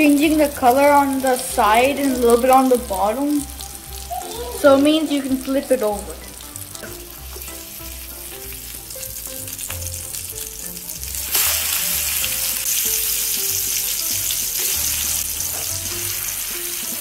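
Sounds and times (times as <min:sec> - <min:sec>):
fish sizzling in butter: 0:00.0 - 0:17.0.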